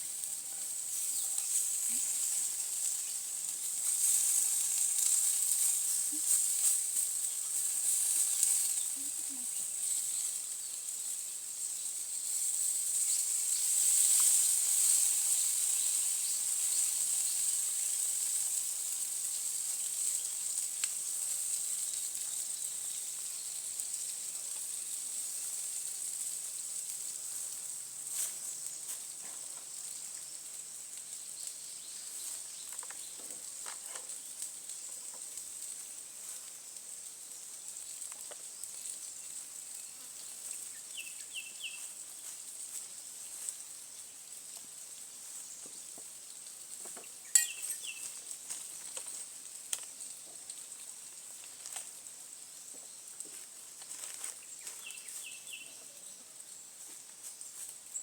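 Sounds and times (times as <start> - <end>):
high-pitched hiss: 0.0 - 58.0.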